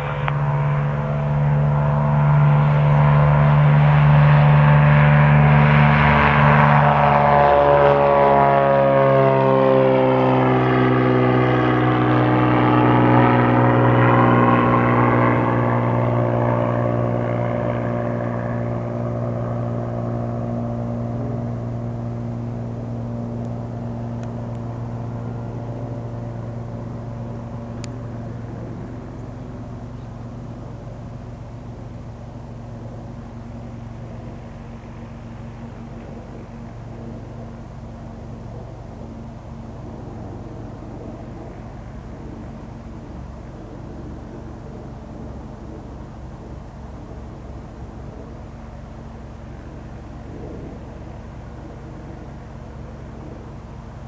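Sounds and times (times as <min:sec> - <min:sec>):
propeller plane taking off: 0:00.0 - 0:54.0.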